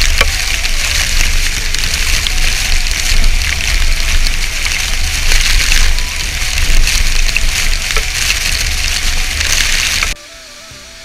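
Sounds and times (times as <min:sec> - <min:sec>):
deep rumble: 0:00.0 - 0:10.6
waterfall rushing and splashing: 0:00.0 - 0:11.0.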